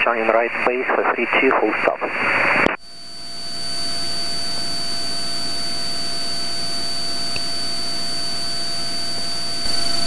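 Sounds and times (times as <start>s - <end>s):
aircraft engine and propeller drone: 0.0s - 10.0s
thin high whine: 0.0s - 10.0s.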